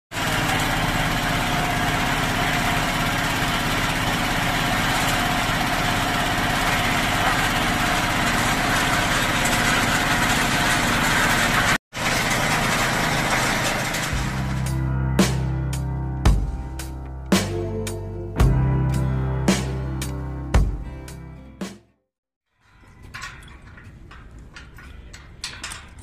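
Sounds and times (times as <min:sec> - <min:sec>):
diesel engine running: 0:00.1 - 0:21.7.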